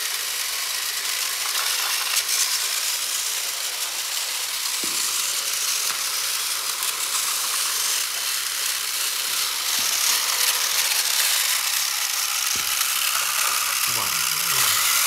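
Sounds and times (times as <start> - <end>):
toy trains whirring and clattering: 0.0 - 15.0.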